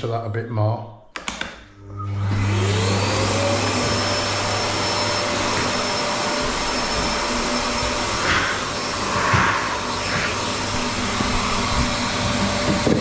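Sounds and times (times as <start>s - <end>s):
vacuum cleaner motor whine: 1.8s - 13.0s
vacuum sucking up debris: 2.5s - 13.0s.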